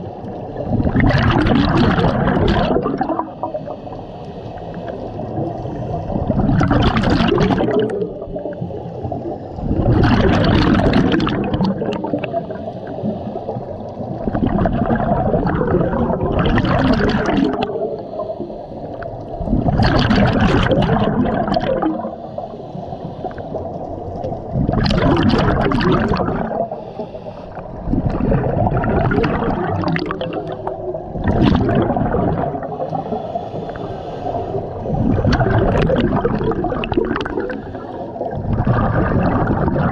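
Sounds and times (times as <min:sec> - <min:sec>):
exhaled bubbles rushing: 0:00.0 - 0:03.8, 0:04.8 - 0:18.2, 0:18.9 - 0:22.5, 0:23.3 - 0:33.3, 0:34.3 - 0:39.9
low underwater gurgling: 0:00.0 - 0:04.0, 0:04.7 - 0:39.9.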